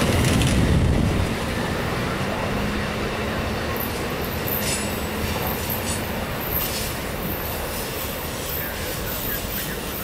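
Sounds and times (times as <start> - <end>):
train cars rumbling on rails: 0.0 - 10.0.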